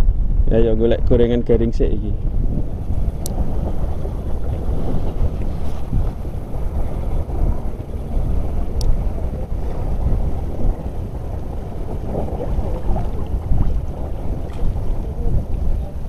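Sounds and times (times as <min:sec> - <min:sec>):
wind buffeting microphone: 0:00.0 - 0:16.0
choppy sea water washing: 0:00.9 - 0:16.0.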